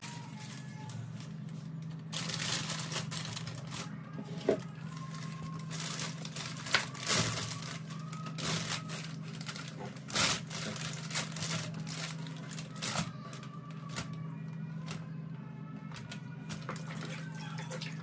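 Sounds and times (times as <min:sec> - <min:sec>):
plastic bag crinkling: 0:00.0 - 0:14.1, 0:16.5 - 0:18.0.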